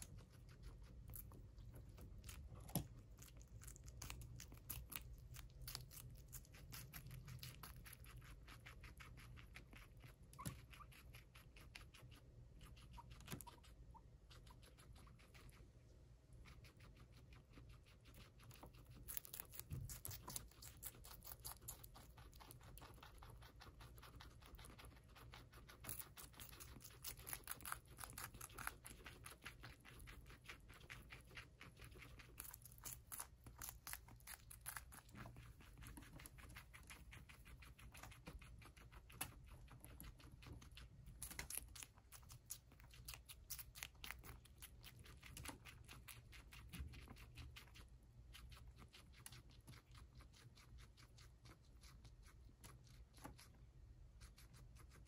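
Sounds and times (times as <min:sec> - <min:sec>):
guinea pigs crunching pepper: 0:00.0 - 0:55.0.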